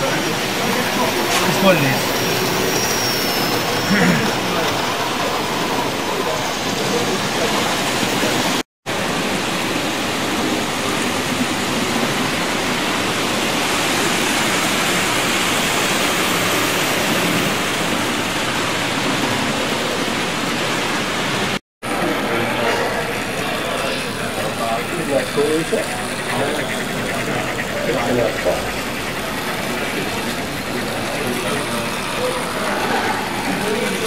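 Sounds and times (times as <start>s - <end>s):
model trains running: 0.0s - 34.0s.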